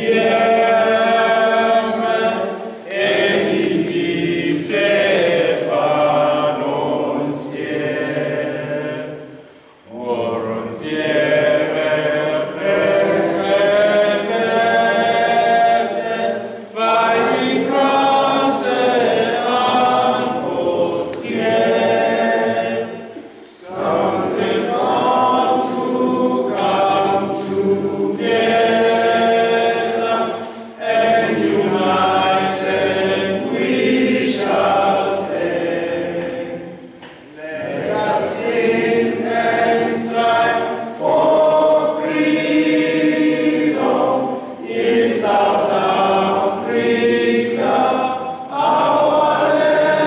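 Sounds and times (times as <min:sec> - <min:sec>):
group singing unaccompanied: 0:00.0 - 0:50.0.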